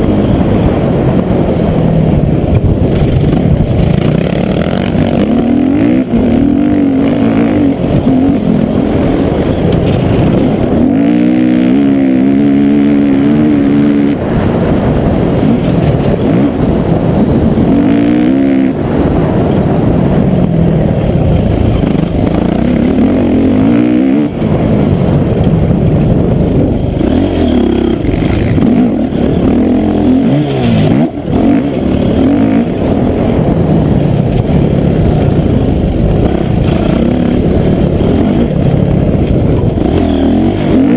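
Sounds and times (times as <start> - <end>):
dirt bike engine revving: 2.3 - 40.9.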